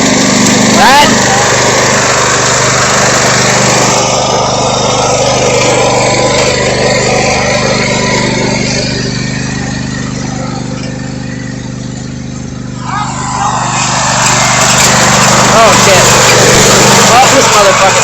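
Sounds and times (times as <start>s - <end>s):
noisy wash: 0.0s - 11.4s, 12.8s - 18.0s
lawn mower engine running: 0.0s - 18.0s.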